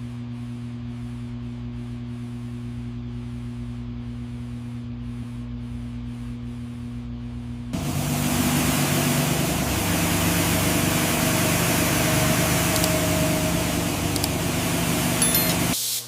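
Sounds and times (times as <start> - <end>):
low motor hum: 0.0 - 15.8.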